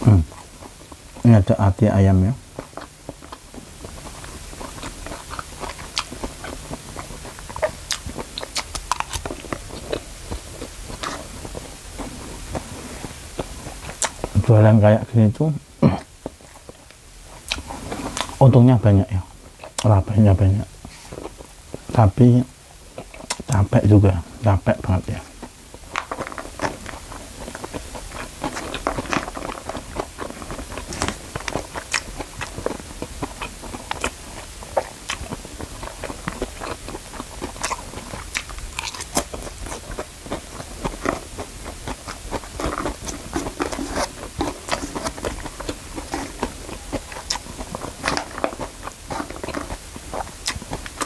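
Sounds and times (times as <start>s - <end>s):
person chewing: 0.0s - 14.8s, 15.4s - 18.4s, 19.2s - 51.0s.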